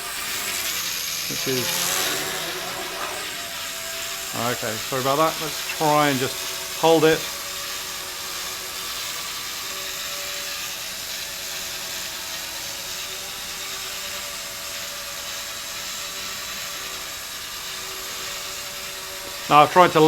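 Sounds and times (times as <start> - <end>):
quadcopter buzzing: 0.0 - 20.0.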